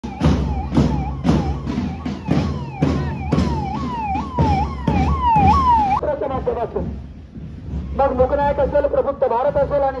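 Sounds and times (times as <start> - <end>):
ambulance siren wailing: 0.0 - 6.0, 7.4 - 10.0
drum beats: 0.0 - 10.0.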